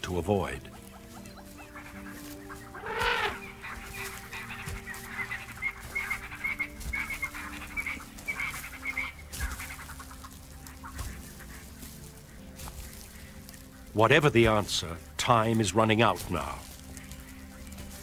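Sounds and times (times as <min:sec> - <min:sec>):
birds honking calls: 0:00.4 - 0:18.0.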